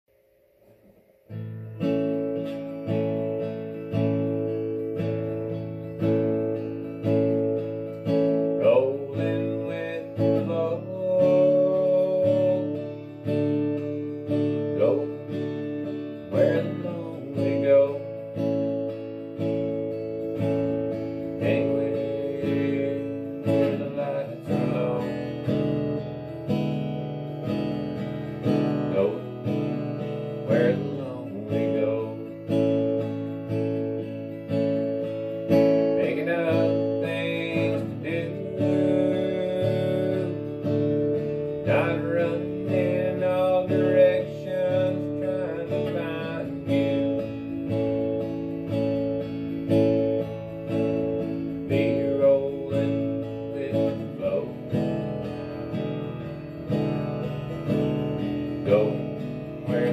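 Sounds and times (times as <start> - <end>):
acoustic guitar strumming: 0.1 - 59.9.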